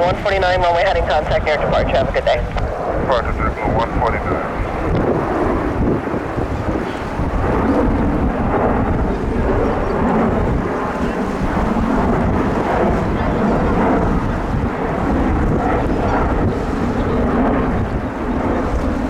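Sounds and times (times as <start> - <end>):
jet engines deep rumble: 0.0 - 19.0
wind buffeting microphone: 0.0 - 19.0.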